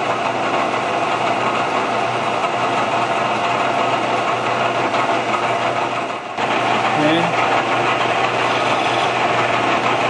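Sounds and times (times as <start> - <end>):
milling machine hum: 0.0 - 10.0.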